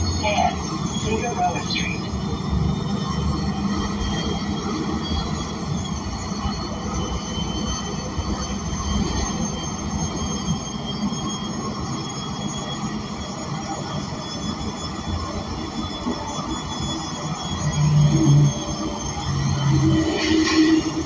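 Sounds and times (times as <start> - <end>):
bus engine low rumble: 0.0 - 21.0
faint high whining tones: 0.0 - 21.0.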